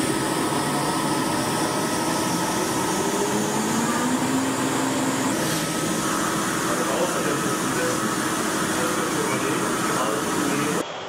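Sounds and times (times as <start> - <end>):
welding machine hiss and hum: 0.0 - 10.8.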